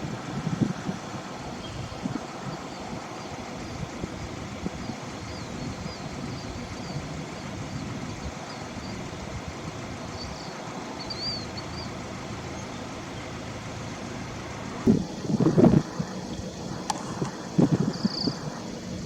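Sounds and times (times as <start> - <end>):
vehicle running: 0.0 - 19.0
wind rumble: 0.0 - 19.0.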